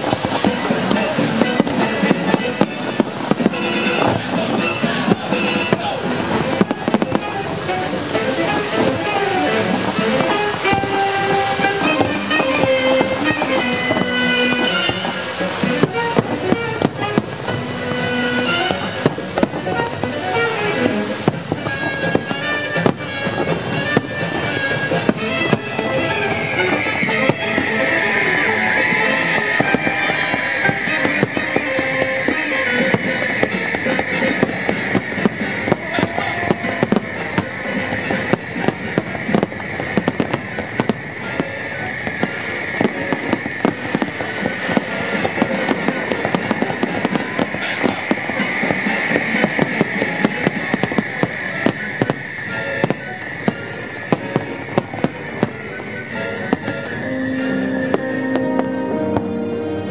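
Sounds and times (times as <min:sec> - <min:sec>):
fireworks bangs and crackling: 0:00.0 - 0:59.9
music soundtrack: 0:00.0 - 0:59.9
steady hiss: 0:00.0 - 0:59.9.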